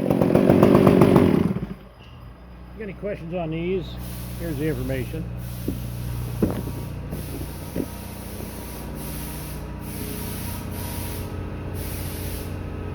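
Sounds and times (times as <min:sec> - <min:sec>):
chainsaw idling: 0:00.0 - 0:01.9, 0:02.8 - 0:12.9.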